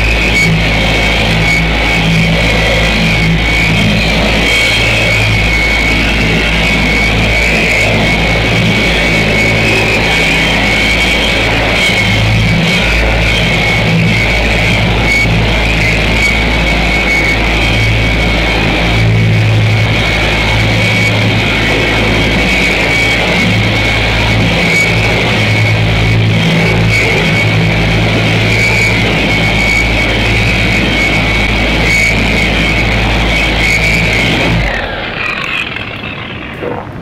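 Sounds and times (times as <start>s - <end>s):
steady high whine: 0.0s - 37.0s.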